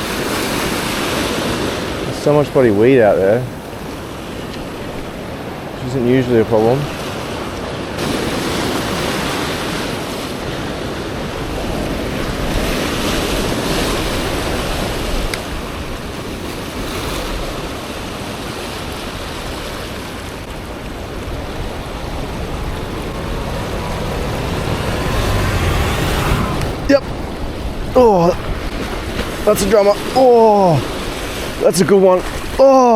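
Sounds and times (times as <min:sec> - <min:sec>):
ocean surf breaking over rocks: 0:00.0 - 0:32.9.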